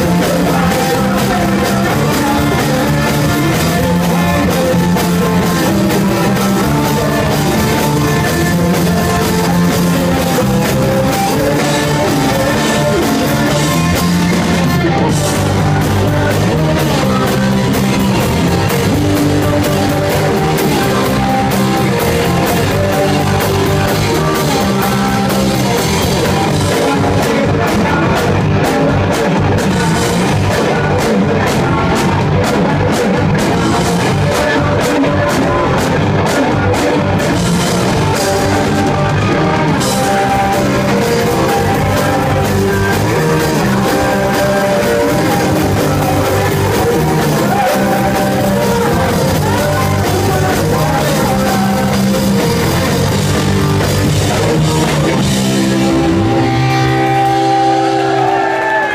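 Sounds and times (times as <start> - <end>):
person singing: 0.0 - 58.9
punk rock band playing: 0.0 - 58.9.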